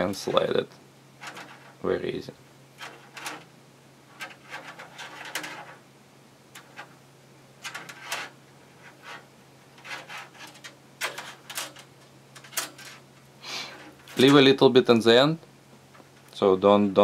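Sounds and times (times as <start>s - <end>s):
cable sleeving rustling and scratching: 0.0s - 5.9s, 6.5s - 7.0s, 7.6s - 17.0s
steady low hum: 0.0s - 17.0s.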